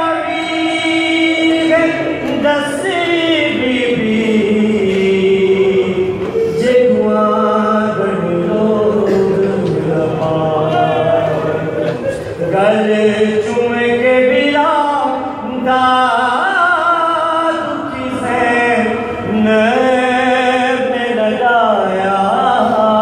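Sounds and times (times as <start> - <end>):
man chanting unaccompanied: 0.0 - 23.0.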